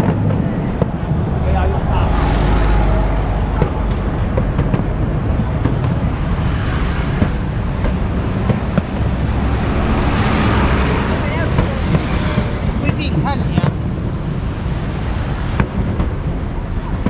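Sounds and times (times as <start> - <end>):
bus passing: 0.0 - 17.0
distant fireworks popping: 0.0 - 17.0
traffic rumble: 0.0 - 17.0.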